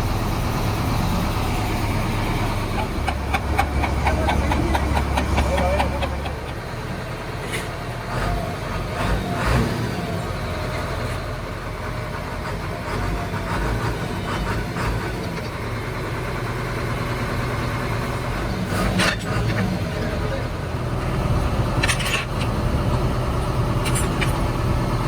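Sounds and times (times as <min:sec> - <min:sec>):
large engine idling: 0:00.0 - 0:25.0.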